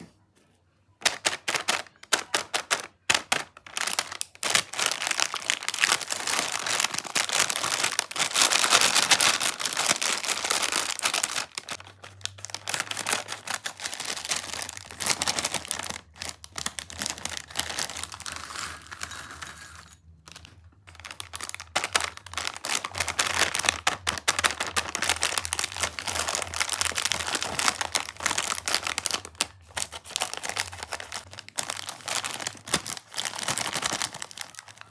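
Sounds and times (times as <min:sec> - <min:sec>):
plastic snack packet crinkling: 0:01.0 - 0:34.9.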